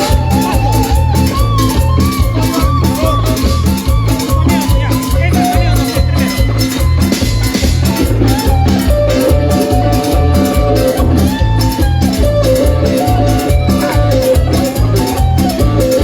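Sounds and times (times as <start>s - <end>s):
lead guitar melody: 0.0s - 16.0s
live band playing dance music: 0.0s - 16.0s.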